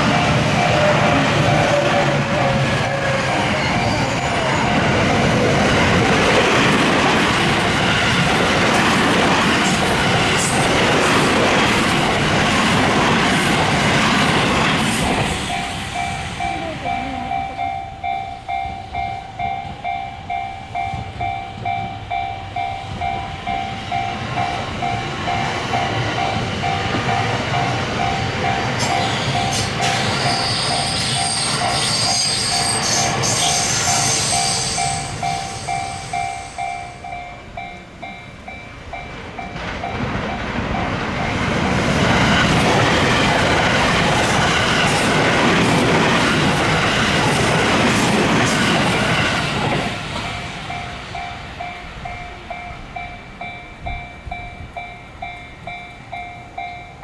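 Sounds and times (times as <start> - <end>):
electronic crossing warning bell: 0.0 - 44.9, 48.8 - 57.0
train rumble and wheel noise: 0.0 - 57.0.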